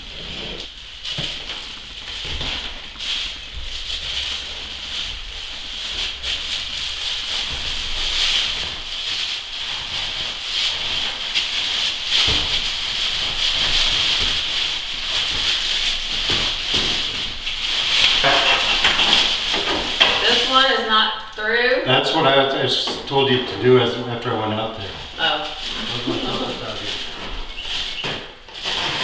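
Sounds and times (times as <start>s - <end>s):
steady high hiss: 0.0s - 28.9s
crinkling and rustling of wrapping: 0.0s - 29.0s.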